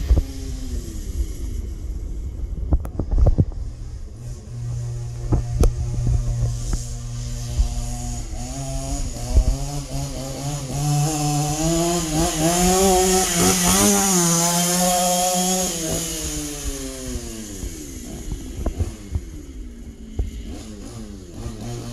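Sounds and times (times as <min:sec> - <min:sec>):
small two-stroke engine revving: 0:00.0 - 0:21.9.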